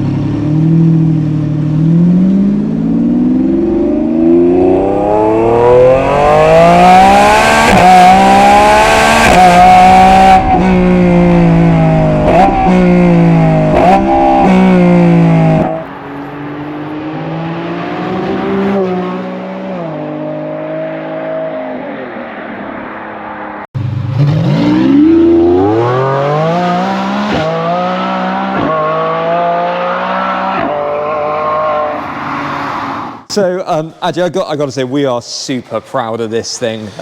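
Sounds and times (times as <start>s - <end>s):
car engine revving through gears: 0.0s - 33.3s.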